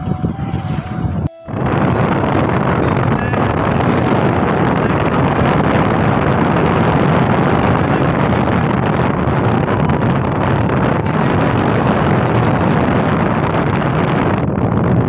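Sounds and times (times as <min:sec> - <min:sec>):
motorcycle engine: 0:00.0 - 0:15.0
road noise: 0:00.0 - 0:15.0
wind rush over microphone: 0:00.0 - 0:15.0.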